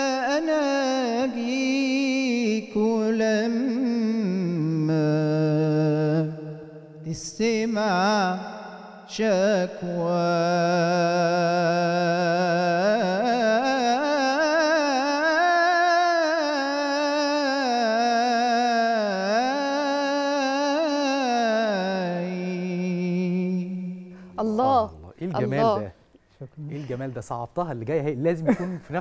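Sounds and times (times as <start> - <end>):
man singing with vibrato: 0.0 - 26.0.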